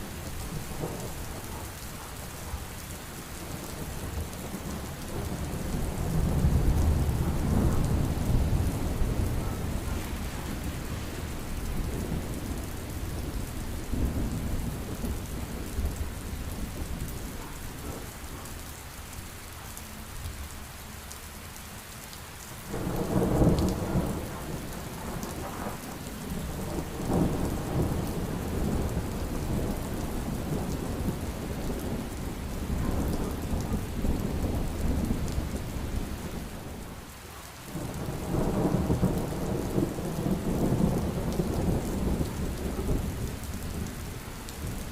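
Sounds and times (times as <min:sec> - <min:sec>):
thunder rumbling: 0:00.0 - 0:01.7, 0:03.4 - 0:18.4, 0:22.7 - 0:36.9, 0:37.7 - 0:44.0
heavy rain: 0:00.0 - 0:44.9.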